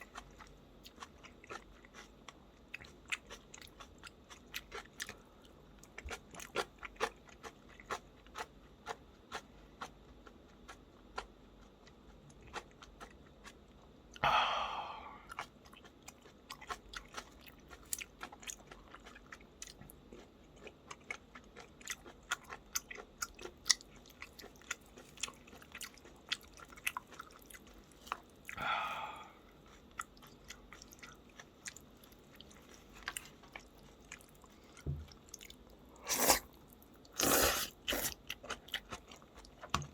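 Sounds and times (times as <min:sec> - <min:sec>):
close chewing with crunches: 0:00.0 - 0:14.2, 0:15.2 - 0:28.6, 0:29.4 - 0:39.9.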